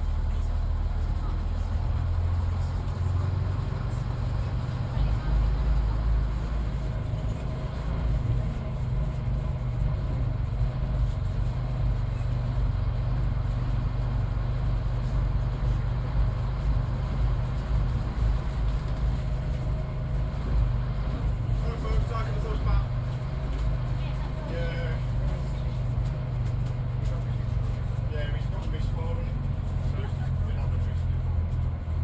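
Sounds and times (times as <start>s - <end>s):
bus diesel engine drone: 0.0s - 32.0s.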